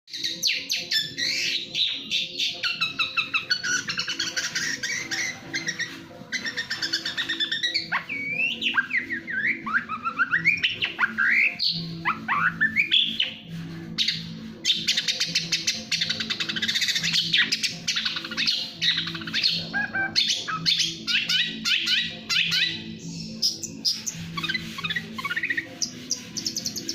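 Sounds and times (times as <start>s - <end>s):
bird singing chattering trills: 0.1s - 13.4s, 14.0s - 26.9s.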